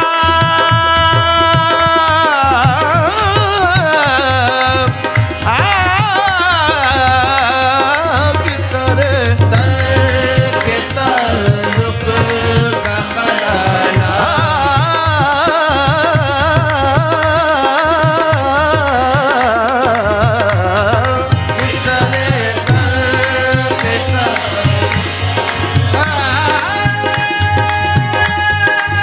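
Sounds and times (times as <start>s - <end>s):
tabla rhythm: 0.0s - 29.0s
wordless ornamented vocal melody: 0.0s - 29.0s.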